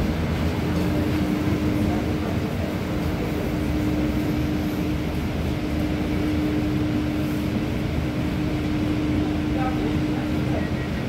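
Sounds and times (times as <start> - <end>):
tram equipment humming: 0.0 - 11.0.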